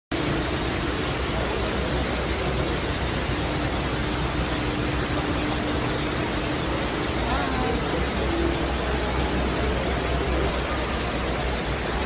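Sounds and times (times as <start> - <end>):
shopping mall background din: 0.1 - 12.0
faint steady hum: 0.2 - 12.0.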